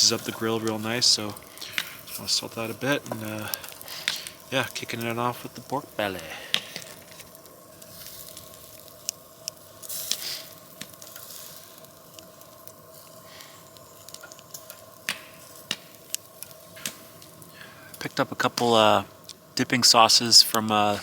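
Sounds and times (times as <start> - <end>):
meat sizzling on a grill: 0.0 - 21.0.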